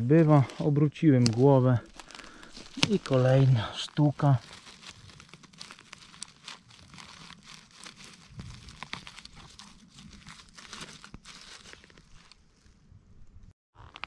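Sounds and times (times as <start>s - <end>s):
leaf litter crackling and rustling: 0.1s - 12.8s.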